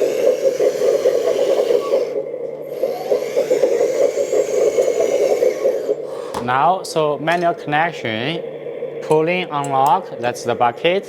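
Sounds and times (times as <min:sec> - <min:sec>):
hydraulic pump and motors whirring: 0:00.0 - 0:11.0.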